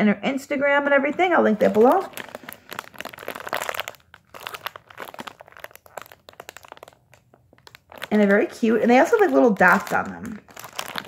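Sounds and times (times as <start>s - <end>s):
plastic bag crinkling: 1.1s - 11.0s.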